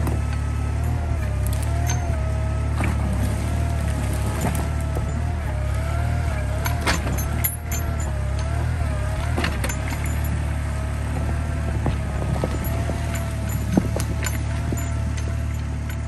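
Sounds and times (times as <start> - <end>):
garden tractor engine running: 0.0 - 16.0.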